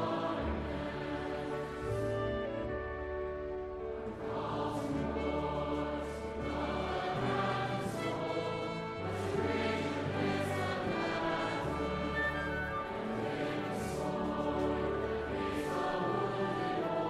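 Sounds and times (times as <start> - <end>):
slow choral background music: 0.0 - 17.0.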